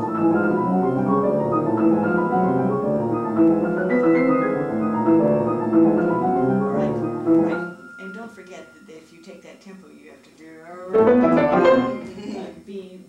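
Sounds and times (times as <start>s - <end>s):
grand pianos playing: 0.0s - 9.6s, 10.7s - 12.6s.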